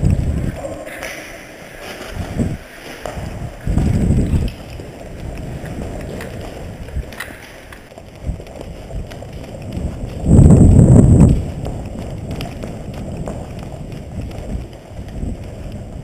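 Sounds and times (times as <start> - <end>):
wind buffeting on microphone: 0.0 - 16.0.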